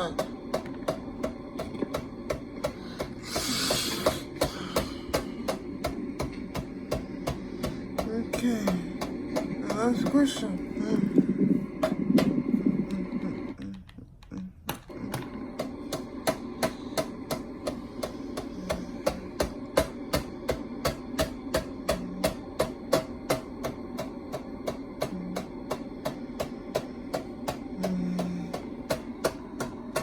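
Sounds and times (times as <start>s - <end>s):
ceiling fan humming: 0.0s - 30.0s.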